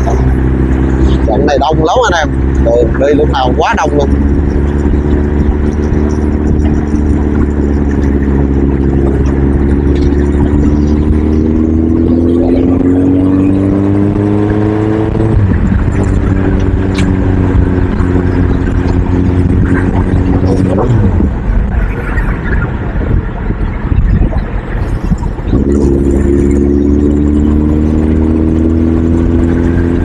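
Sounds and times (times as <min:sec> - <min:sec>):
low wind rumble: 0:00.0 - 0:30.0
vehicle engine accelerating: 0:00.0 - 0:30.0.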